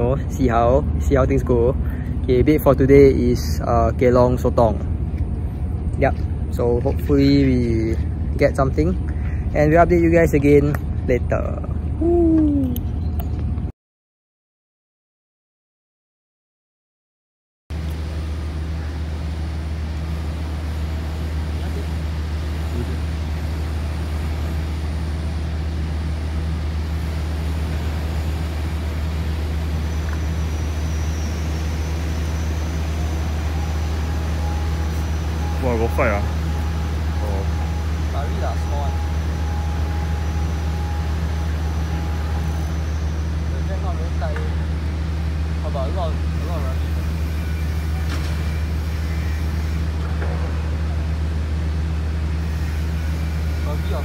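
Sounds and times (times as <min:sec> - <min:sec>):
low mechanical hum: 0:00.0 - 0:13.7, 0:17.7 - 0:54.0.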